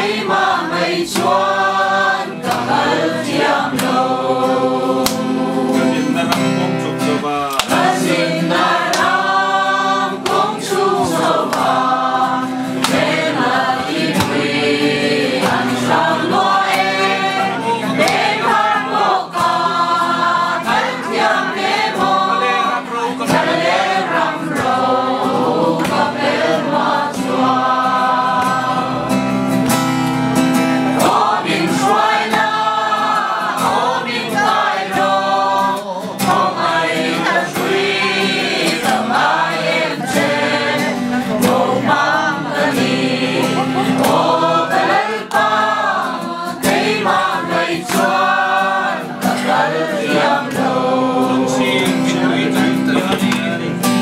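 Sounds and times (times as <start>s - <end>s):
acoustic guitar: 0.0s - 54.0s
group singing a worship song: 0.0s - 54.0s.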